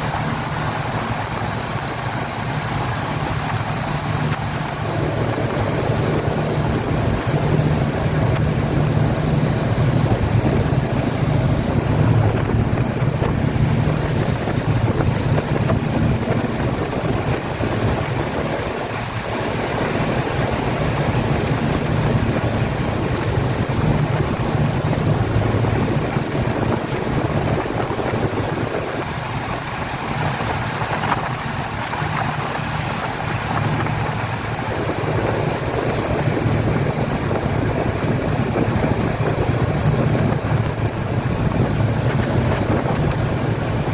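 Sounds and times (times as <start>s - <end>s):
speedboat engine droning: 0.0s - 43.9s
water rushing past hull: 0.0s - 43.9s
wind on microphone: 0.0s - 43.9s.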